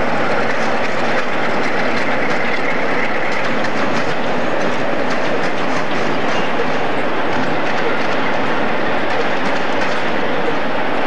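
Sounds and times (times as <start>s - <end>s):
diesel locomotive engine: 0.0s - 11.0s
wheels clicking over rail joints: 0.0s - 11.0s.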